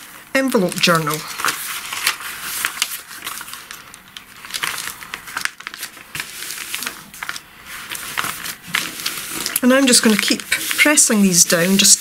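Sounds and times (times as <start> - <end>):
paper envelopes rustling: 0.0 - 12.0.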